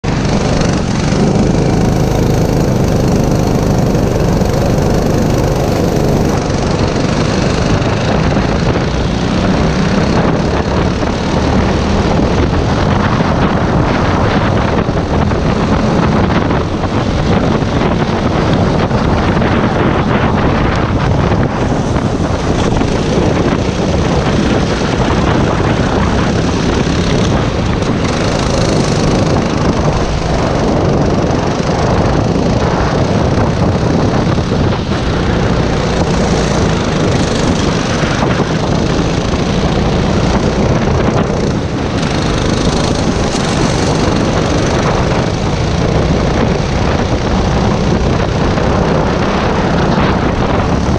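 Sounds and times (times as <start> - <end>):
go-kart engine running hard: 0.0 - 50.9
other go-kart engines: 0.0 - 50.9.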